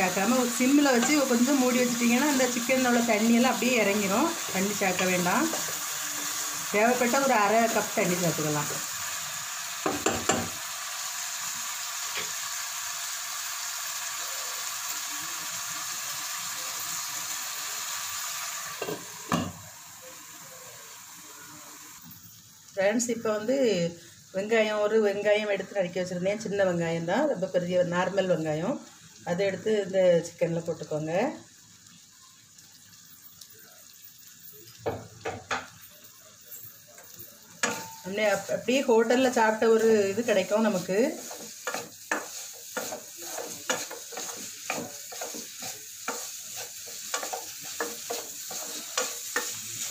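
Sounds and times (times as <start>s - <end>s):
chicken sizzling in a pot: 0.0s - 49.9s.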